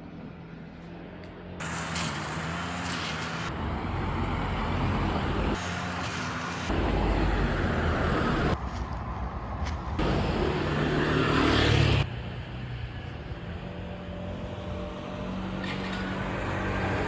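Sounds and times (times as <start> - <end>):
motor vehicle running: 0.0 - 17.0.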